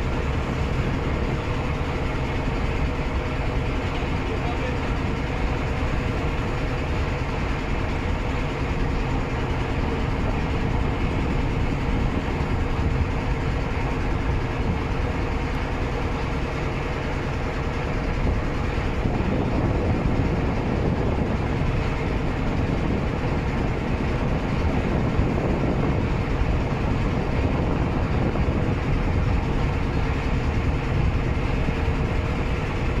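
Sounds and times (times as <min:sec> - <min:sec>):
steamer engine droning: 0:00.0 - 0:33.0
water rushing along hull: 0:00.0 - 0:33.0.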